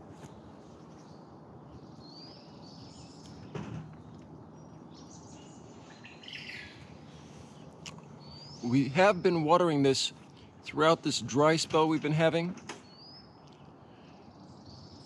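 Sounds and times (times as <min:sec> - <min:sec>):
outdoor background noise: 0:00.0 - 0:15.0
small birds chirping: 0:00.2 - 0:12.2, 0:12.8 - 0:15.0.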